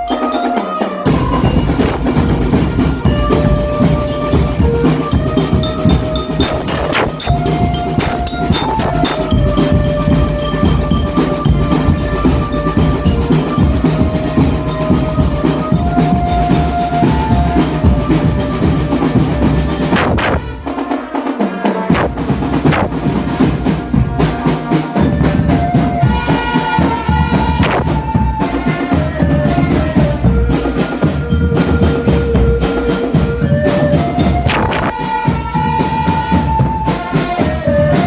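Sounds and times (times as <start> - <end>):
held-note melody: 0.0 - 38.0
snare and bass drums: 1.1 - 38.0.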